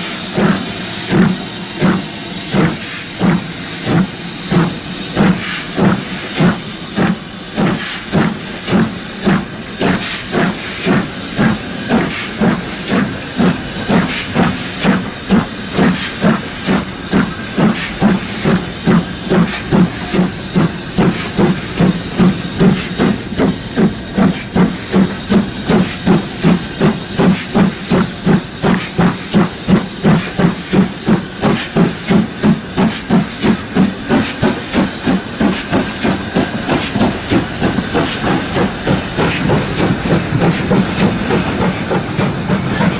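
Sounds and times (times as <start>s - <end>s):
steam locomotive chuffing: 0.0s - 42.9s.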